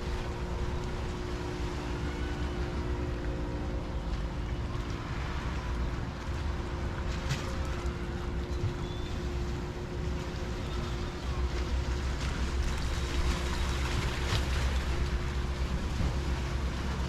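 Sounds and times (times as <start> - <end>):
faint constant hum: 0.0 - 17.0
steady low rumble: 0.0 - 17.0
water lapping: 0.0 - 17.0.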